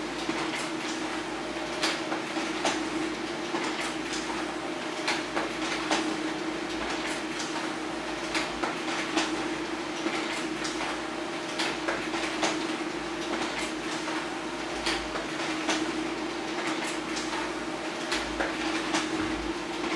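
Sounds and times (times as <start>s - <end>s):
laser printer humming: 0.0s - 19.9s.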